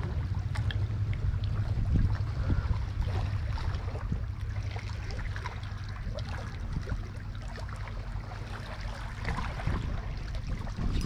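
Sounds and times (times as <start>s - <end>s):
small waves lapping on rocks: 0.0s - 11.0s
water splashes: 0.0s - 11.0s
wind rumble on microphone: 0.0s - 11.0s.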